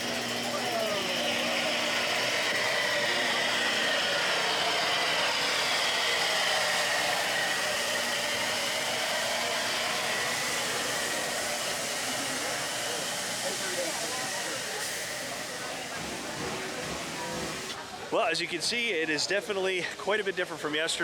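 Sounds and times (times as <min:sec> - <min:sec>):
steam locomotive hissing: 0:00.0 - 0:17.8.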